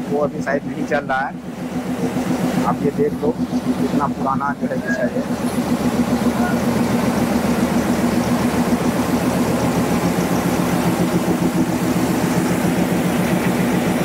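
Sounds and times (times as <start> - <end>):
diesel locomotive idling: 0.0 - 14.0.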